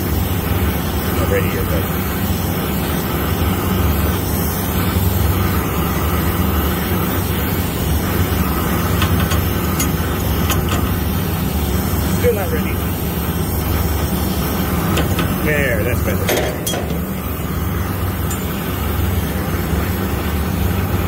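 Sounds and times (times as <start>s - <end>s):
steady low hum: 0.0s - 21.0s
torch flame burning: 0.0s - 21.0s.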